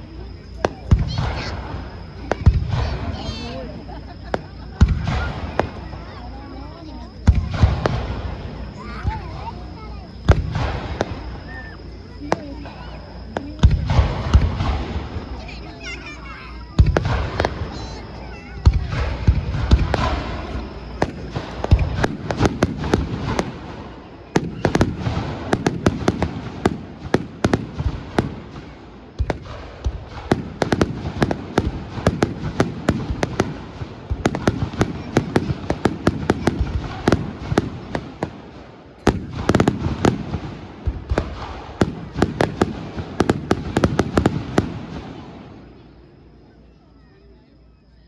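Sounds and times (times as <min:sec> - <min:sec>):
fireworks crackling and popping: 0:00.0 - 0:46.0
deep firework booms: 0:00.4 - 0:45.9.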